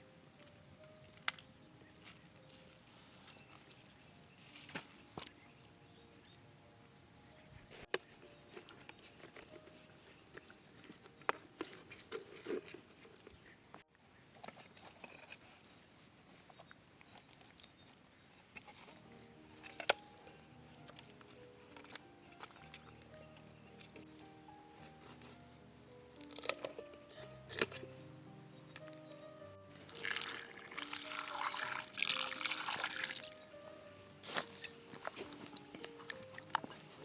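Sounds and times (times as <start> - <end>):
low background noise: 0.0 - 37.0.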